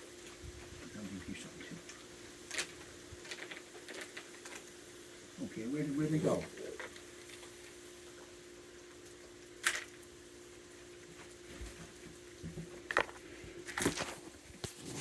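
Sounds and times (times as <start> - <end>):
raccoons crunching food: 0.0 - 15.0.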